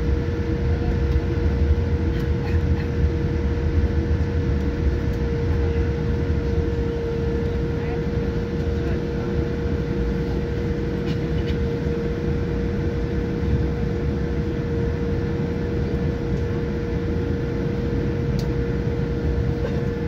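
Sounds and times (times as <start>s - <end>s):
aircraft engines idling rumble: 0.0s - 20.0s
steady cabin hum: 0.0s - 20.0s.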